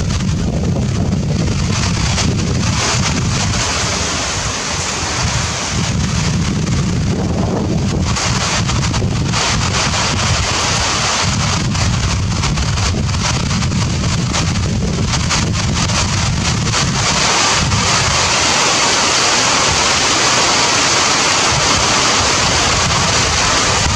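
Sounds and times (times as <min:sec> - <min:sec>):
heavy rain pouring: 0:00.0 - 0:23.9
wind buffeting microphone: 0:00.0 - 0:23.9.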